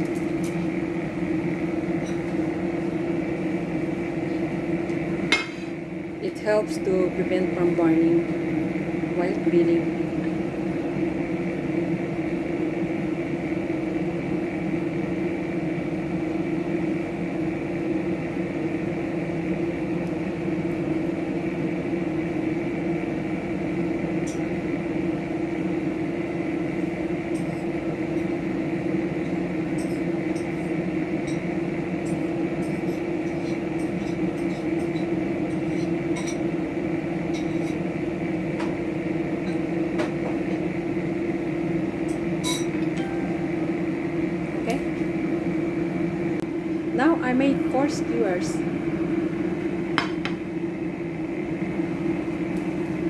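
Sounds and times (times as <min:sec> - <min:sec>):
machine hum: 0:00.0 - 0:53.0.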